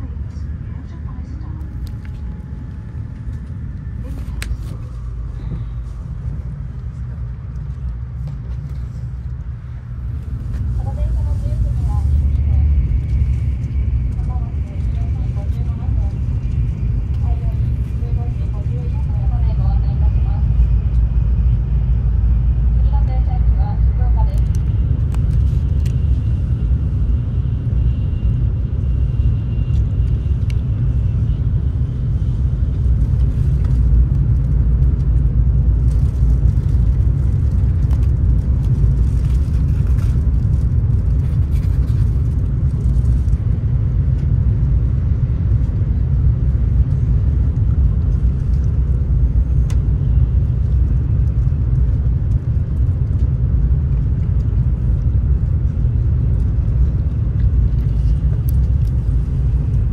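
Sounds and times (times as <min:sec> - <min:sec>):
train cabin low rumble: 0:00.0 - 0:59.9.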